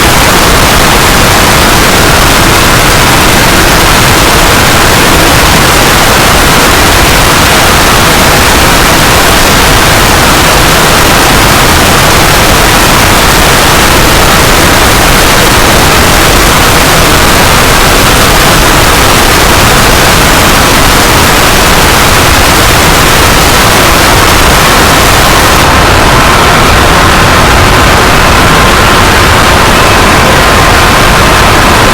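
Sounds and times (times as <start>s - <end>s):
loud harsh static: 0.0s - 31.9s.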